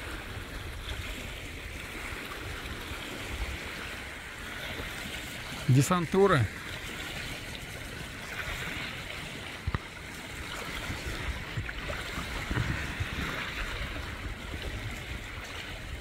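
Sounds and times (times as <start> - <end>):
wind rumble on microphone: 0.0 - 5.7, 6.5 - 16.0
water lapping and splashing: 0.0 - 16.0.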